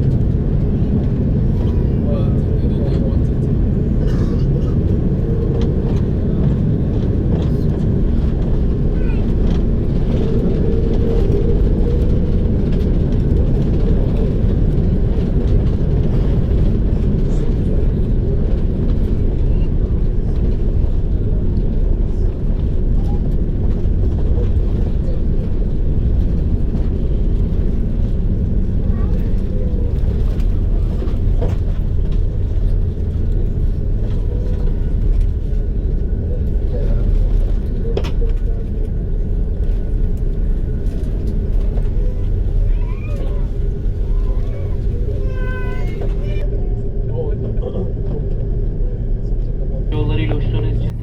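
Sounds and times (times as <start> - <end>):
airliner cabin low rumble: 0.0 - 51.0.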